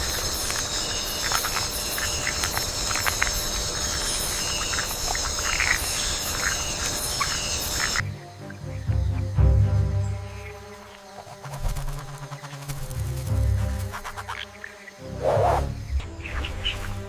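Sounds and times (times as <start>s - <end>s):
high insect chirps: 0.0s - 17.0s
insect chorus buzzing: 0.0s - 17.0s.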